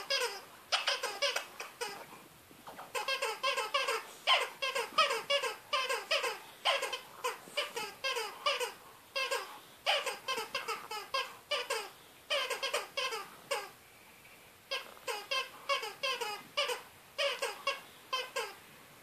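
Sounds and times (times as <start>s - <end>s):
rubber dog toy squeaking: 0.0s - 13.8s, 14.7s - 18.6s.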